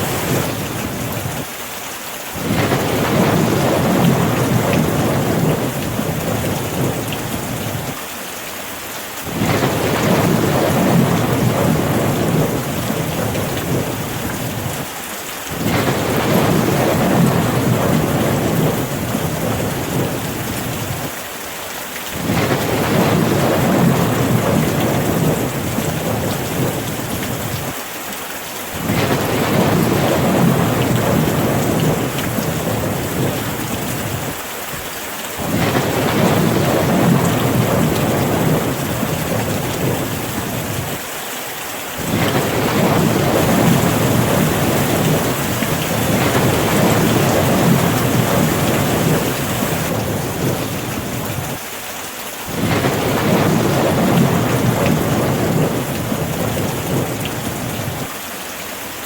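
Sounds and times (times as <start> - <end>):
steady rain falling: 0.0 - 59.0
low rolling thunder: 2.4 - 8.0, 9.2 - 14.9, 15.5 - 21.1, 22.1 - 27.8, 28.8 - 34.4, 35.4 - 41.0, 42.0 - 51.6, 52.5 - 58.1.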